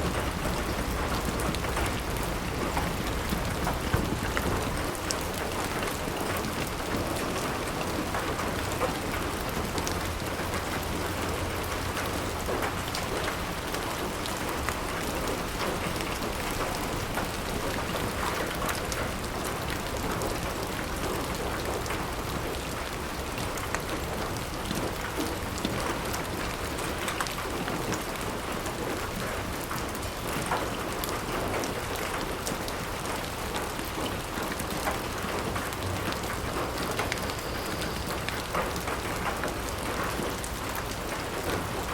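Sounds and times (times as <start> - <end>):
heavy rain on glass window: 0.0 - 41.9.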